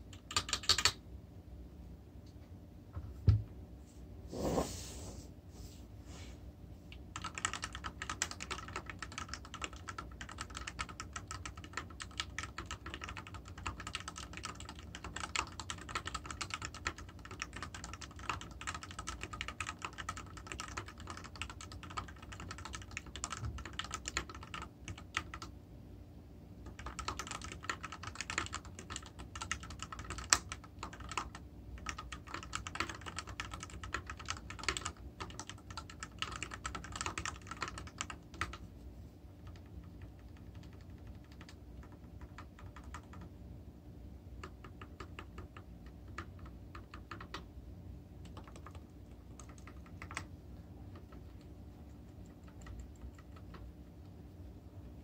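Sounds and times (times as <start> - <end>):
fast typing on mechanical keyboard: 0.1 - 1.0, 7.1 - 25.5, 26.6 - 38.6, 39.4 - 43.4, 44.3 - 47.5, 48.2 - 53.8.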